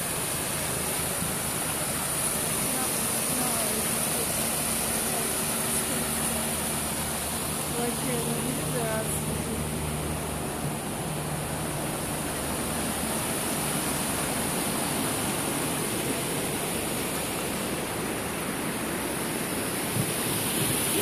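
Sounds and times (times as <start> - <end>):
waterfall and stream rushing: 0.0 - 21.0.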